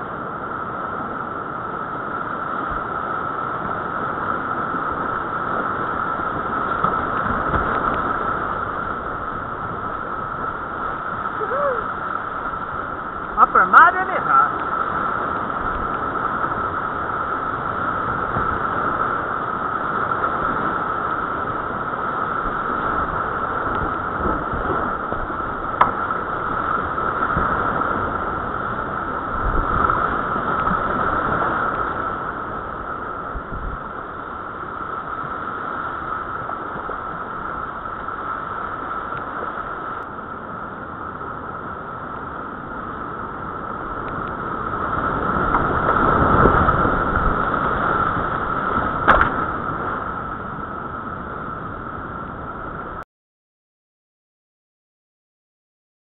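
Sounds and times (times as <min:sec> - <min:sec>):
whitewater rushing: 0:00.0 - 0:53.0.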